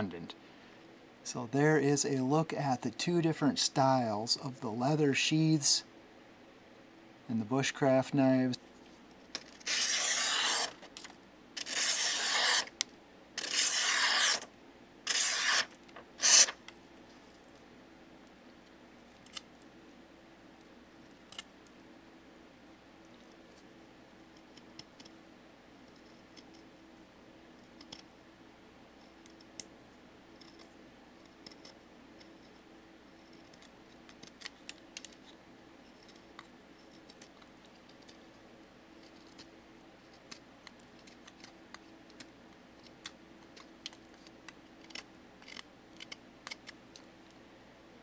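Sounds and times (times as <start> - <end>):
faint room hum: 0.0 - 48.0.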